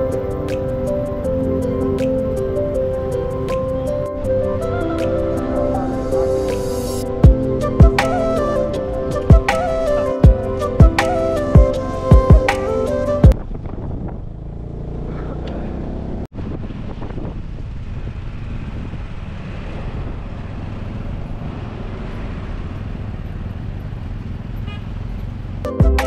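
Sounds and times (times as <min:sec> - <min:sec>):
wind and road noise: 0:00.0 - 0:25.8
motorcycle engine hum: 0:00.0 - 0:26.0.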